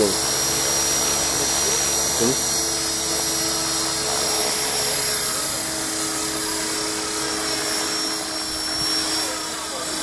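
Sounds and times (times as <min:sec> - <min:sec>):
rc helicopter motor whine: 0:00.0 - 0:10.0.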